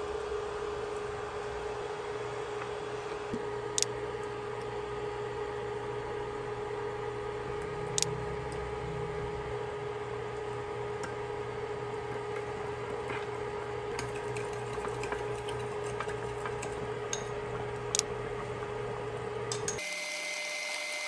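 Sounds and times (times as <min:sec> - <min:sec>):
electrical appliance hum: 0:00.0 - 0:21.0.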